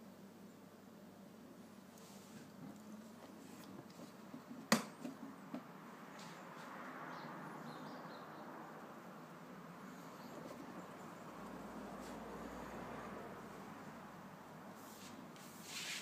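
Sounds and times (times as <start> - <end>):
faint steady hiss: 0.0 - 6.8, 8.7 - 16.0.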